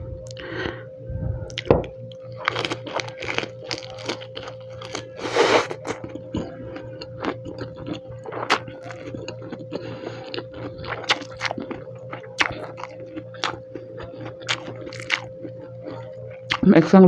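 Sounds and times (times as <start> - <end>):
crunching and chewing lettuce: 1.5 - 17.0.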